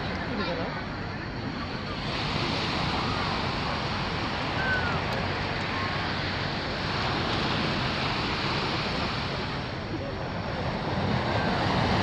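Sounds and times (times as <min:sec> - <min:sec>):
surf breaking on a beach: 0:00.0 - 0:12.0.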